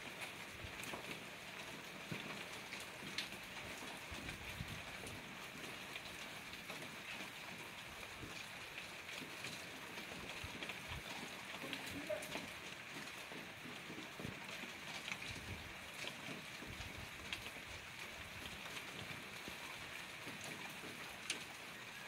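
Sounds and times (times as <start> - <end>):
hail pattering on ground: 0.0 - 22.0.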